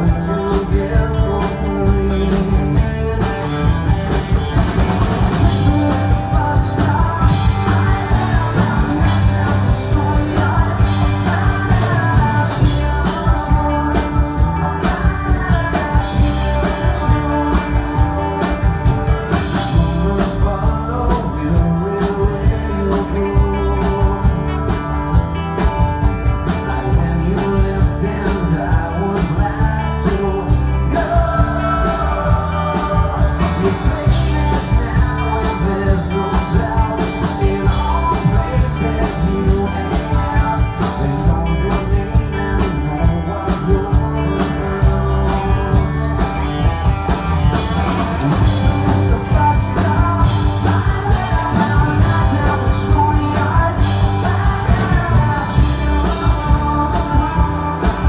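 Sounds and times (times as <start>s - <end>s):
bass guitar: 0.0s - 58.0s
drum kit beat: 0.0s - 58.0s
electric guitars: 0.0s - 58.0s
man singing lead vocal: 0.0s - 58.0s.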